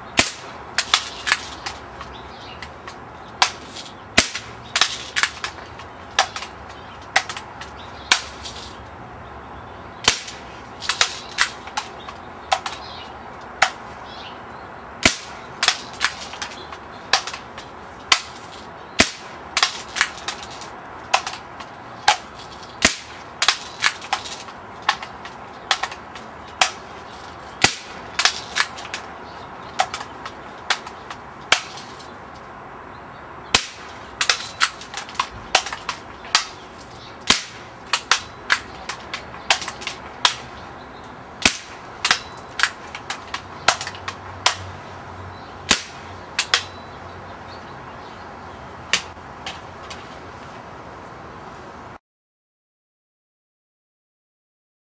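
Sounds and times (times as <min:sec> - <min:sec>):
steady background hum: 0:00.0 - 0:51.9.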